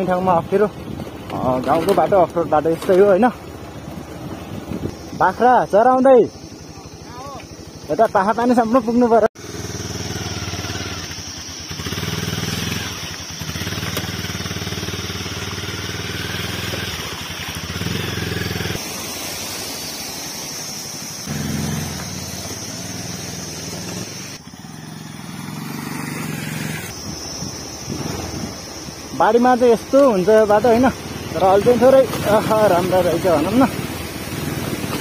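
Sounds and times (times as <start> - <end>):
motorcycle engine running: 0.0 - 19.0, 20.5 - 35.0.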